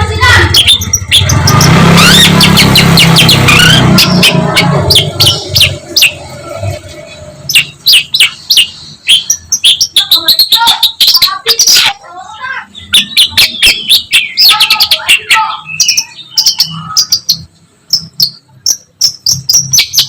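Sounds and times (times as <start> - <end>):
shrike singing varied song: 0.0 - 20.0.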